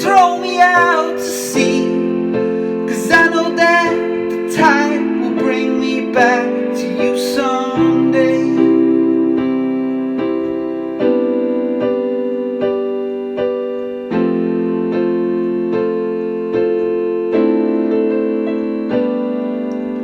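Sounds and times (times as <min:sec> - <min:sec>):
piano ballad chords: 0:00.0 - 0:20.0.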